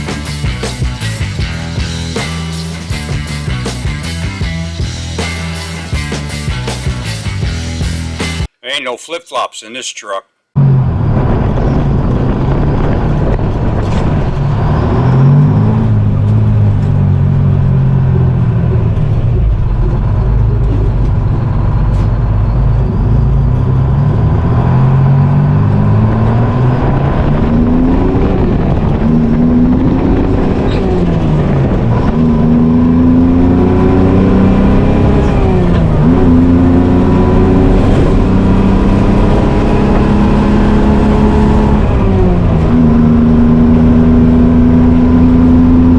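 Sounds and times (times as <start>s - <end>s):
diesel truck engine accelerating: 0.0s - 8.5s, 10.6s - 45.9s.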